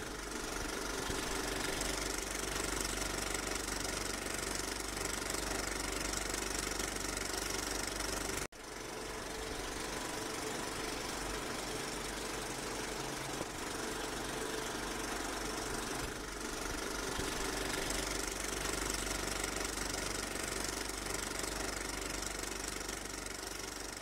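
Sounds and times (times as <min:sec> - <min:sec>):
machine clattering: 0:00.0 - 0:24.0.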